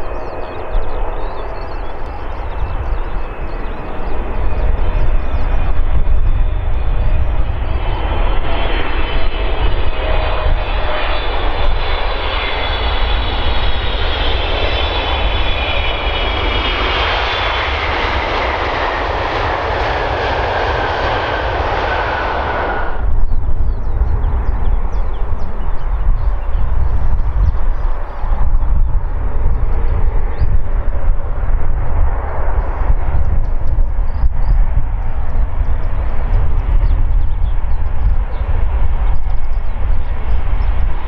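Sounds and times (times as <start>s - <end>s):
jet engines whining and rumbling: 0.0s - 41.0s.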